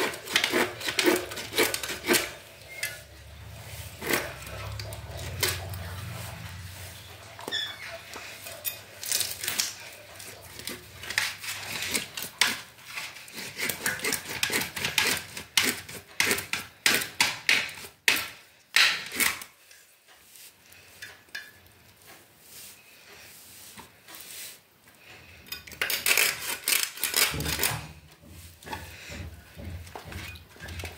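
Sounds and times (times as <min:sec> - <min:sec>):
knife scraping fish: 0:00.0 - 0:19.8, 0:22.4 - 0:30.9.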